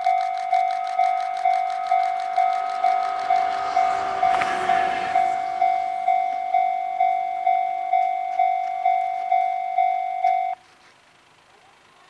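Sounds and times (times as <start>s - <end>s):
level-crossing warning bell ringing: 0.0s - 10.6s.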